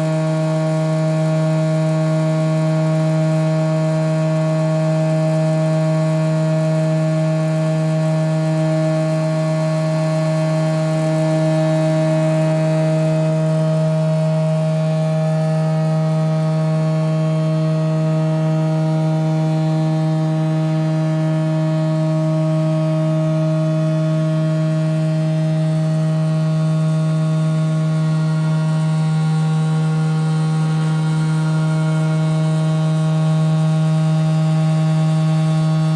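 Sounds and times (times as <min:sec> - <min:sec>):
scanner humming: 0:06.0 - 0:35.9.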